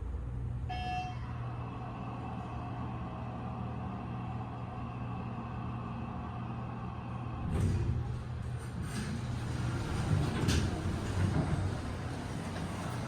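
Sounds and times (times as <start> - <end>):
elevator low hum: 0.0 - 13.0.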